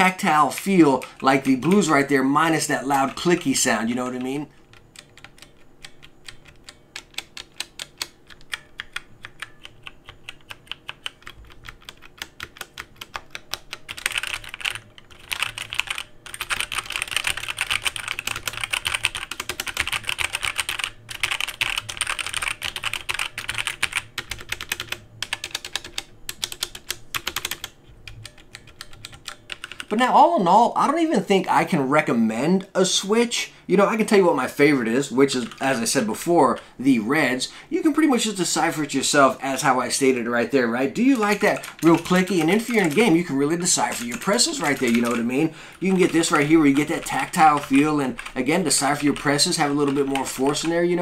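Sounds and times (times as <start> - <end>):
mechanical keyboard typing: 0.0 - 30.2, 34.0 - 36.6, 37.2 - 51.0.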